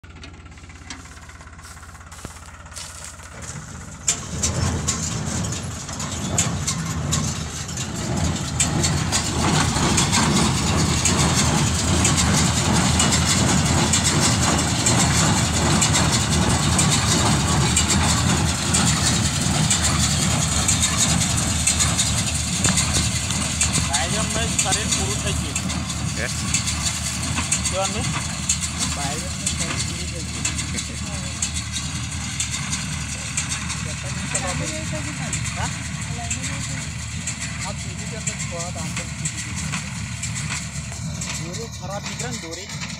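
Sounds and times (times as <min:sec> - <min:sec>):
baler machinery running: 0:00.0 - 0:42.9
tractor engine: 0:00.0 - 0:42.9.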